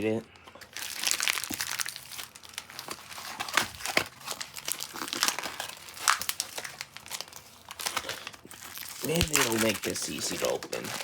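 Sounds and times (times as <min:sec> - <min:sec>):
plastic and paper crinkling: 0:00.4 - 0:11.0.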